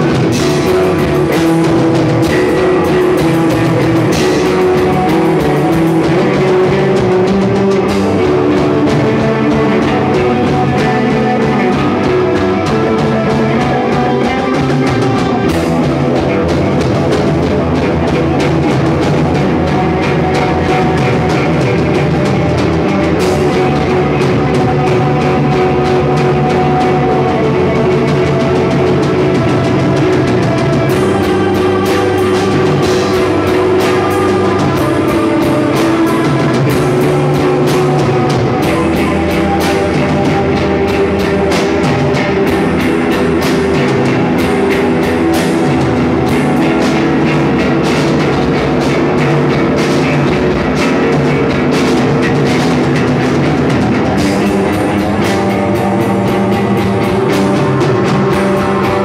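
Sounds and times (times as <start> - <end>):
drum kit hits: 0.0 - 59.0
guitar chords: 0.0 - 59.0.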